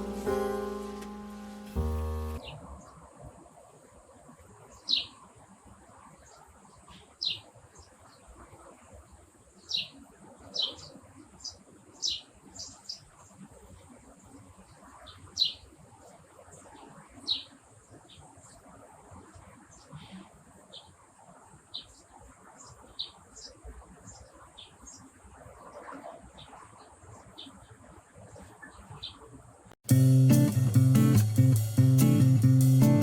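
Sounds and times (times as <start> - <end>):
faint steady high hiss: 0.0 - 25.8, 26.4 - 33.0.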